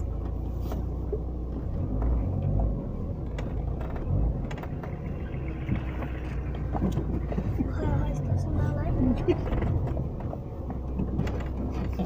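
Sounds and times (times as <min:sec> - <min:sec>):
knocks and rattles: 0:00.0 - 0:08.3, 0:09.1 - 0:12.0
vehicle rumbling on dirt road: 0:00.0 - 0:12.0.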